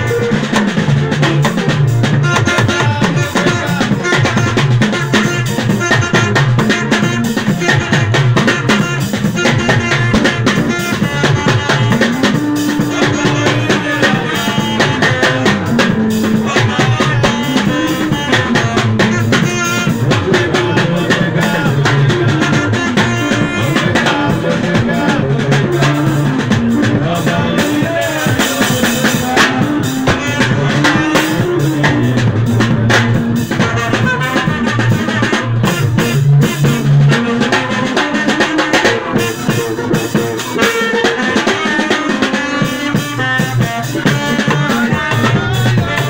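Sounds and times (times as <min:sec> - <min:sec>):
live band playing: 0:00.0 - 0:46.0.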